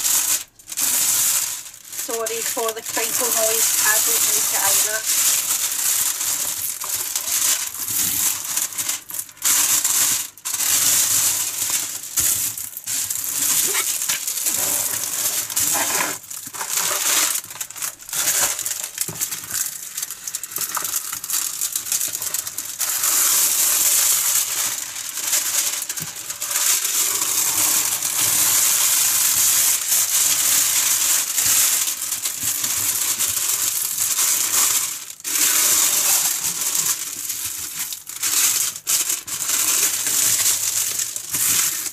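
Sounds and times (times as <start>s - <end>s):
plastic sheet crinkling: 0.0s - 41.9s.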